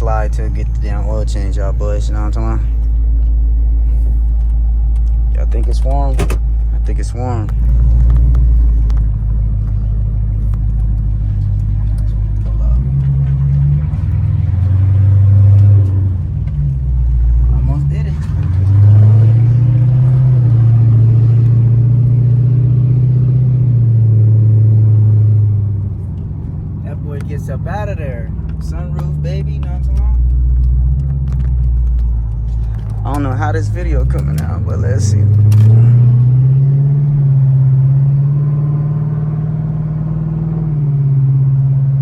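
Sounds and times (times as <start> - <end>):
car engine exhaust drone: 0.0 - 42.0.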